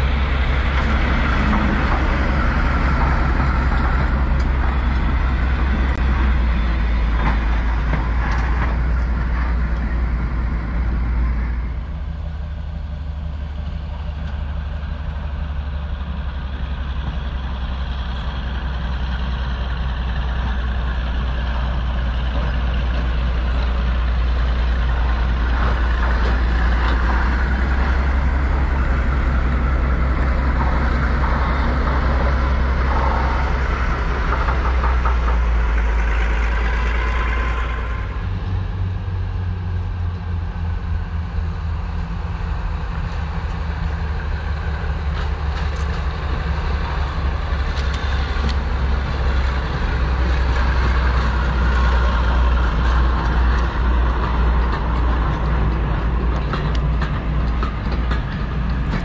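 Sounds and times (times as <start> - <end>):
diesel locomotive engine rumbling: 0.0 - 59.0
train running by: 0.0 - 59.0.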